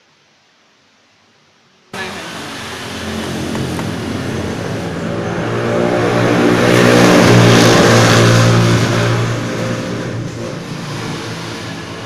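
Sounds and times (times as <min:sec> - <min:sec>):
vehicle engine passing by: 0:02.0 - 0:12.0.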